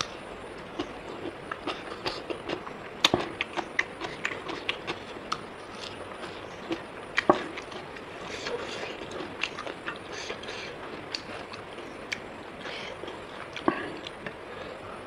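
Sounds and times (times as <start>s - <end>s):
chewing and mouth noises: 0.0s - 14.4s.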